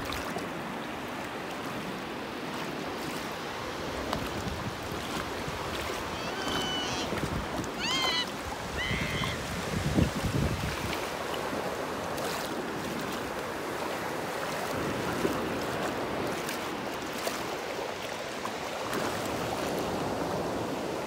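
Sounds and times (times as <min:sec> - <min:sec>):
waves breaking on shore: 0:00.0 - 0:21.0.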